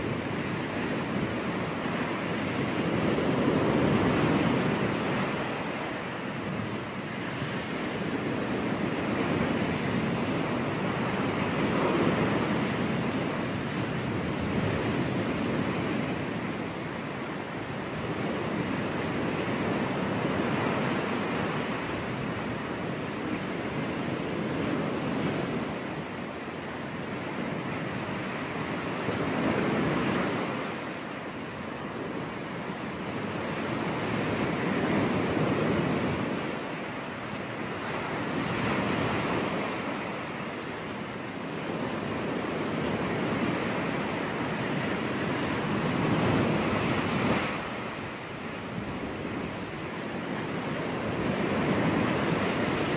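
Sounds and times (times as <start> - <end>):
ocean waves breaking on beach: 0.0 - 52.9
wind on microphone: 0.0 - 52.9.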